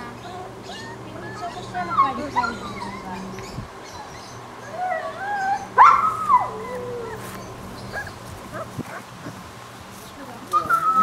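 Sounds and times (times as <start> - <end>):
puppy whining: 0.2 - 9.4, 10.5 - 11.0.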